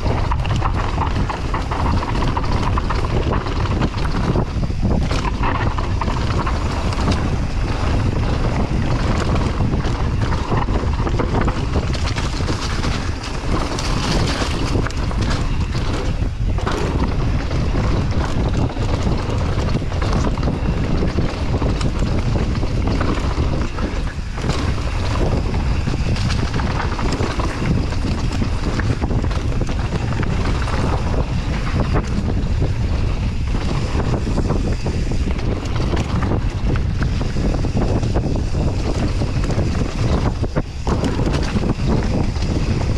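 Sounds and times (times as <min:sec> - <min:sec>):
bike rattles and knocks: 0:00.0 - 0:42.9
tyres rumbling on dirt: 0:00.0 - 0:42.9
wind buffeting microphone: 0:00.0 - 0:42.9.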